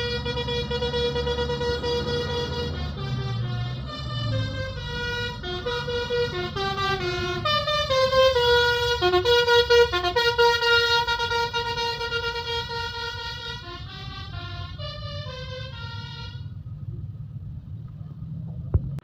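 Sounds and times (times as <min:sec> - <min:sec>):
musical air horn playing a tune: 0:00.0 - 0:16.5
low engine rumble: 0:00.0 - 0:19.0.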